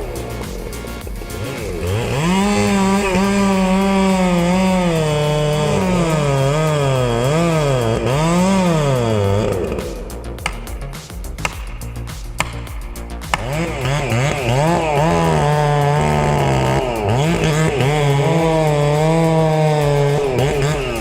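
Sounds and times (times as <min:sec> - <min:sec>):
chainsaw cutting: 0:00.0 - 0:21.0.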